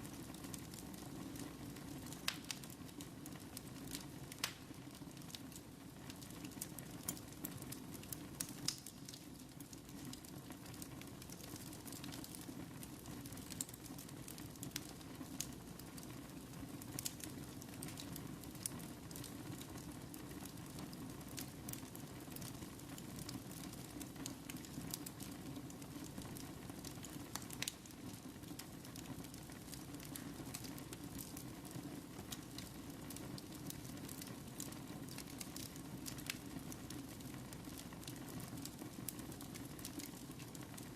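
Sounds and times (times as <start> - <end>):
fire crackles and pops: 0.0 - 40.9
wood fire burning: 0.0 - 40.9.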